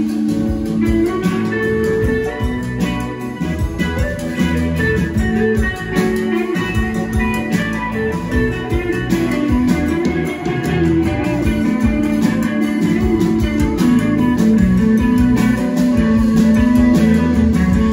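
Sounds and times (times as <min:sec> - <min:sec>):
electric guitar: 0:00.0 - 0:17.9
rock band playing live: 0:00.0 - 0:17.9.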